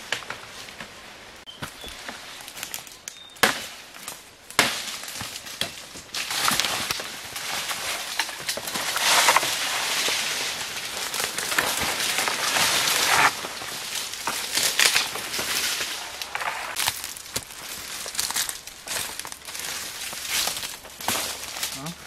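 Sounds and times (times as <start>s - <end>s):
dry leaves and bamboo crackling: 0.0s - 22.0s.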